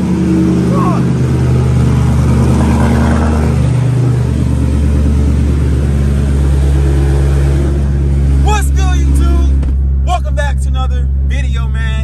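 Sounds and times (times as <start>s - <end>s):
car engine running loud: 0.0s - 12.0s.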